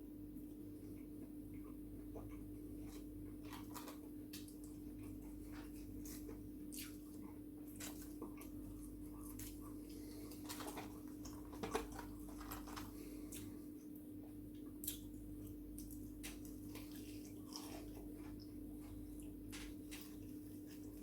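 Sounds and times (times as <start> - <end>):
steady low hum: 0.0 - 21.0
person chewing: 0.9 - 21.0.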